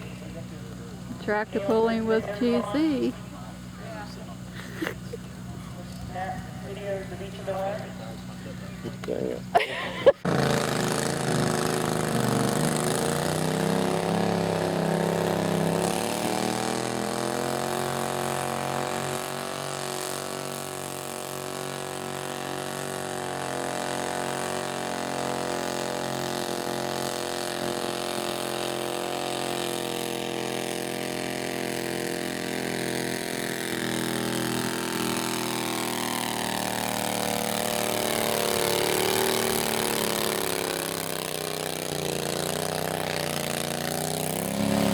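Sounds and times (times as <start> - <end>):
garden tractor engine running: 0.0 - 44.9.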